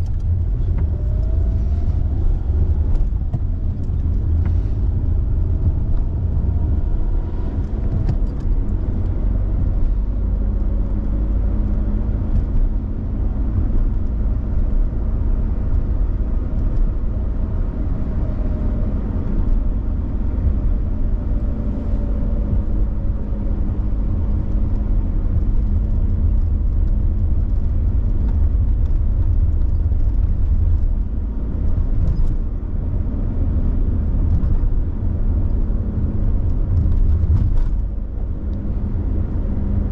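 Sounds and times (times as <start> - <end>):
car tyres and drivetrain rumble: 0.0 - 39.9.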